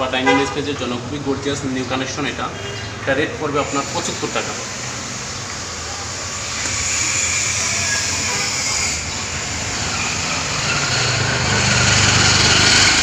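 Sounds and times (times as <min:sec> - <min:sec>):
motor traffic rumble and hiss: 0:00.0 - 0:13.0.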